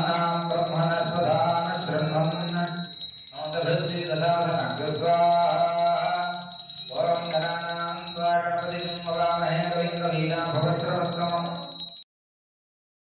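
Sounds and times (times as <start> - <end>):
person singing a devotional chant: 0.0 - 11.7
hand bell ringing rapidly: 0.0 - 12.0.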